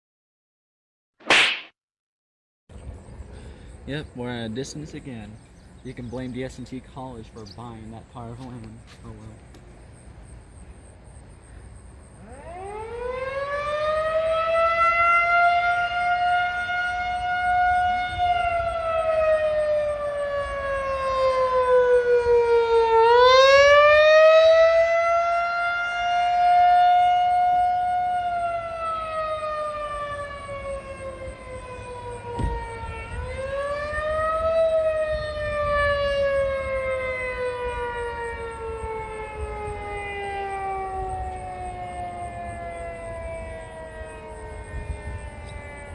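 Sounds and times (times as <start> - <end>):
distant warning siren wailing: 2.8 - 45.9.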